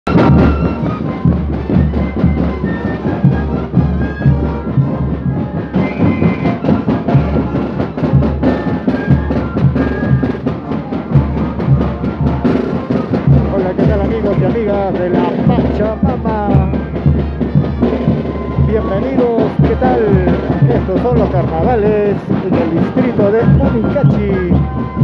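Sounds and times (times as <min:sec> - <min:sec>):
bass drum beat: 0:00.1 - 0:25.0
festive dance band music: 0:00.1 - 0:25.0.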